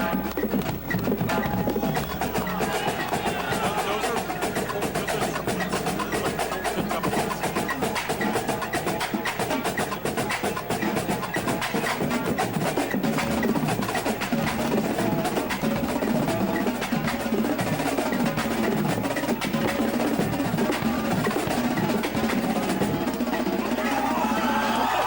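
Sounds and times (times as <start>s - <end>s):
drum rolls and rapid strokes: 0.0s - 25.0s.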